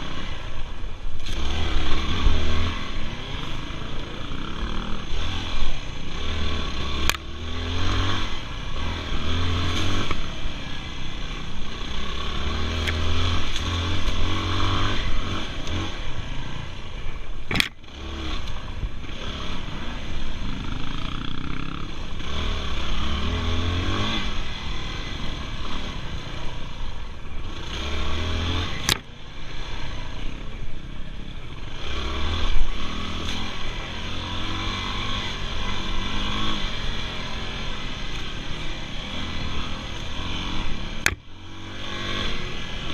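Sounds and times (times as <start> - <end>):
dirt bike engine revving: 1.2 - 16.8, 17.5 - 30.5, 31.5 - 42.9.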